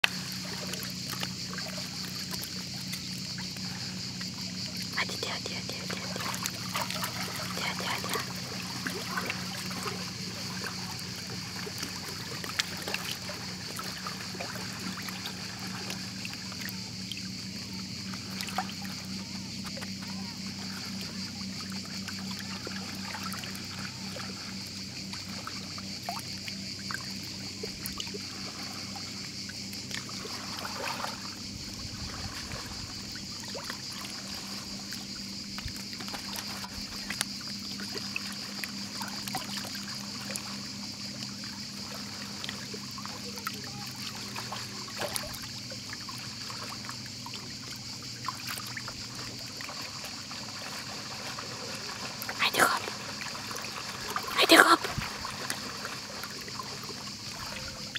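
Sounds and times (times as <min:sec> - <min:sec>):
sea water lapping: 0:00.0 - 0:57.9
small water splashes: 0:00.0 - 0:57.9.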